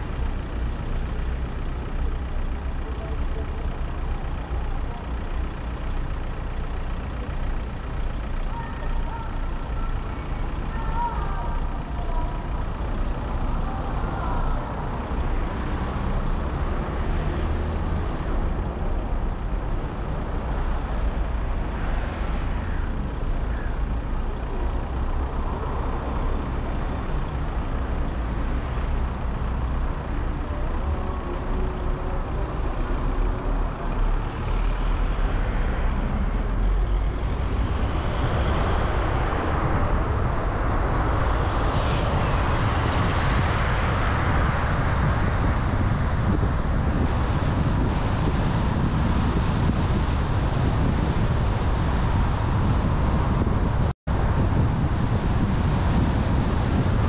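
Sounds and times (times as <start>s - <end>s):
car road and engine rumble: 0.0s - 57.0s
trucks and buses: 0.0s - 57.0s.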